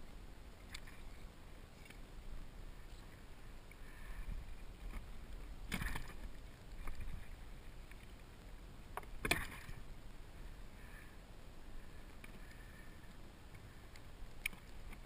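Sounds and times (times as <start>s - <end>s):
low wind rumble: 0.0s - 15.0s
water lapping against kayak: 0.5s - 15.0s.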